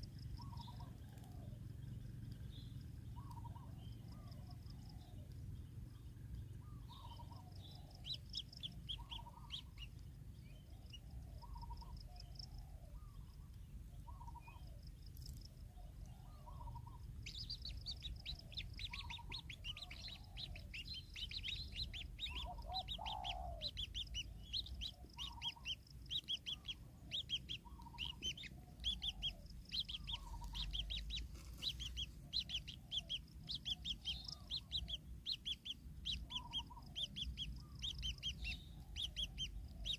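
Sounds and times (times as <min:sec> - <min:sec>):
low bird call: 0:00.0 - 0:05.3, 0:05.9 - 0:15.0, 0:15.6 - 0:39.9
high thin bird chirps: 0:06.7 - 0:39.9.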